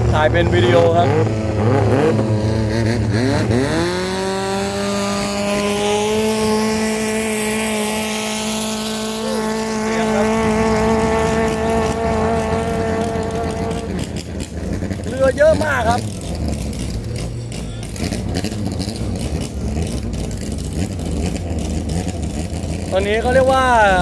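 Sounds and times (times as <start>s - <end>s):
boat engine revving: 0.0s - 24.0s.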